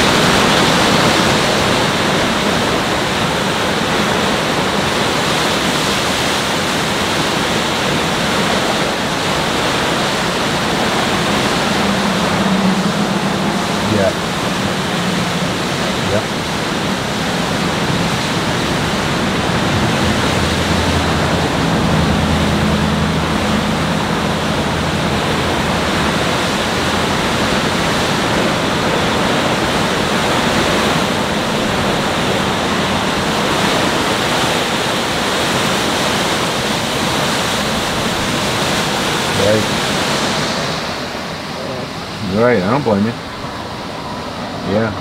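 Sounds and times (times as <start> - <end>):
rough lake surf: 0.0 - 45.0
strong storm wind: 0.0 - 45.0.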